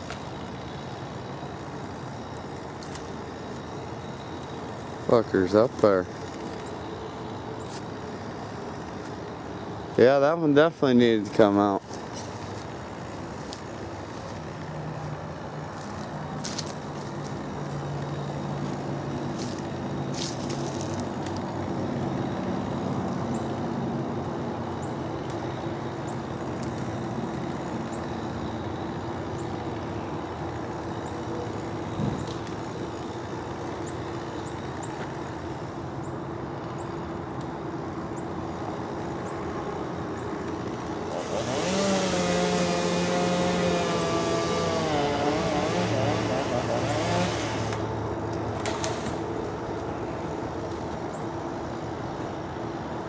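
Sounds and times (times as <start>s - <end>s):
truck engine droning: 0.0s - 53.0s.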